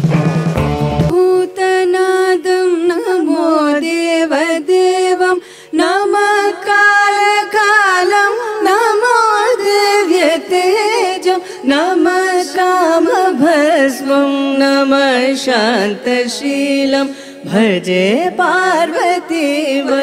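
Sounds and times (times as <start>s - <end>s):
solo voice singing wordless melody: 1.2s - 20.0s.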